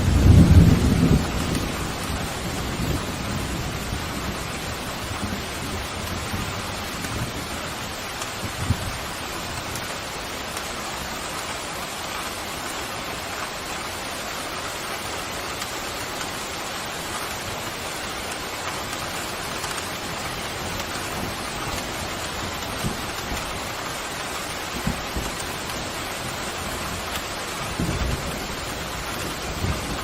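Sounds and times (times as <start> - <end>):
pouring rain: 0.0 - 30.0.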